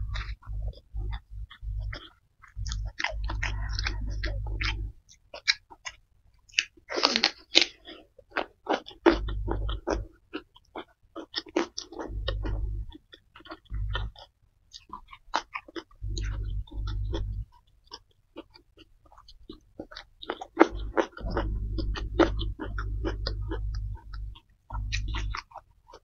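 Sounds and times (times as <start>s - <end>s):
chewing with wet mouth clicks: 0.1s - 26.0s.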